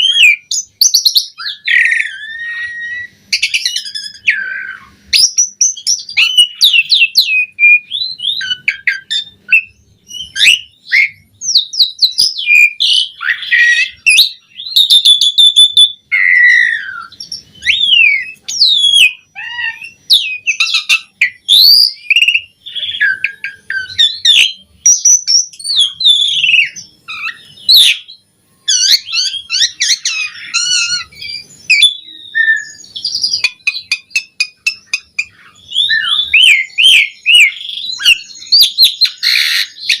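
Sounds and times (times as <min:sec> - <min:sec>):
starling singing whistles: 0:00.0 - 0:40.0.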